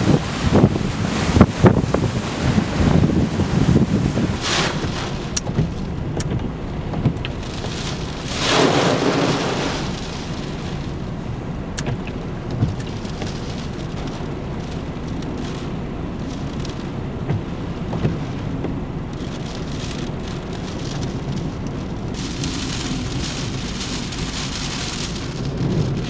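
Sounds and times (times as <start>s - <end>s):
heavy rain rushing: 0.0s - 26.0s
wind buffeting microphone: 0.0s - 26.0s.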